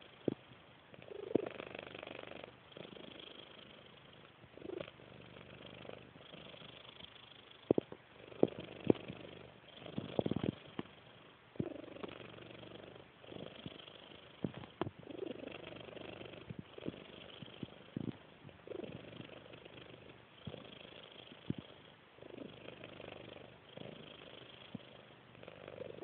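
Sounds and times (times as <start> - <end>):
cat snoring softly: 0.0 - 26.0.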